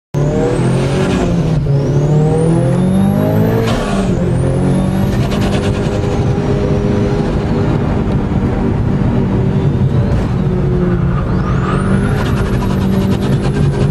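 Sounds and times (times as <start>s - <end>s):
car engine accelerating hard: 0.2s - 13.9s.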